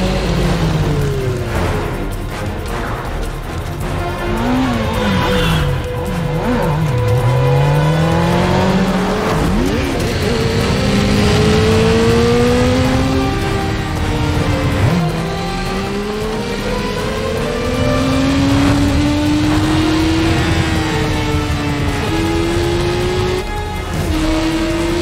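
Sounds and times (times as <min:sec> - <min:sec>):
car engines revving: 0:00.0 - 0:25.0
film score music: 0:00.0 - 0:25.0.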